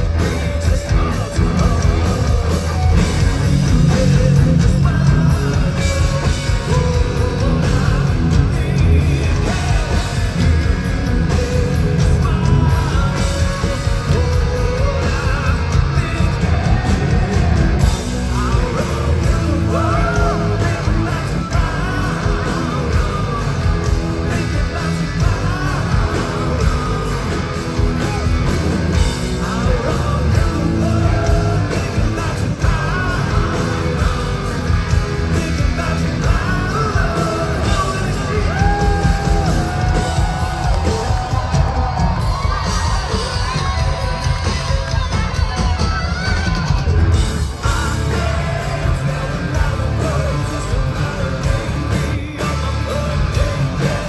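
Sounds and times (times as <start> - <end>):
live rock band playing: 0.0 - 54.0
person shouting lead vocals: 3.7 - 54.0.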